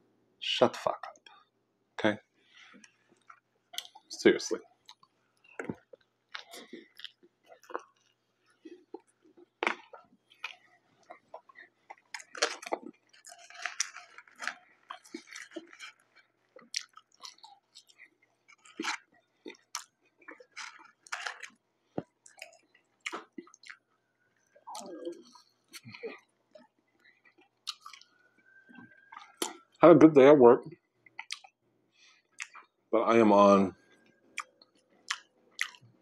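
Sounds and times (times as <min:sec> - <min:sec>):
person chewing: 0:02.6 - 0:04.0, 0:04.8 - 0:29.8, 0:31.0 - 0:32.7, 0:33.8 - 0:36.0.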